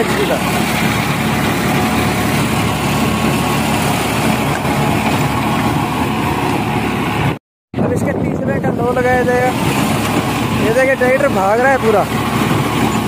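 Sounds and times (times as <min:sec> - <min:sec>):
rotavator blades churning soil: 0:00.0 - 0:07.3, 0:08.7 - 0:13.0
tractor diesel engine running: 0:00.0 - 0:13.0.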